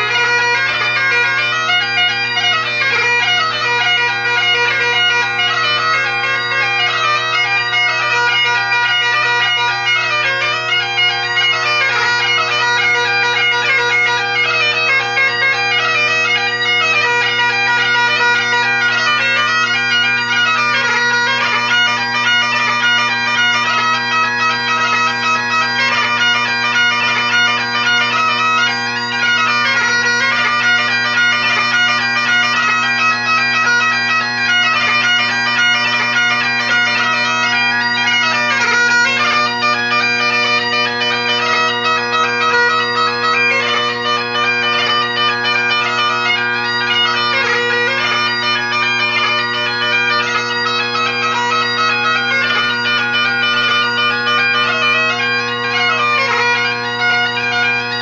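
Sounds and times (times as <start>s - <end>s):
bagpipe drones and chanter melody: 0.0s - 58.0s.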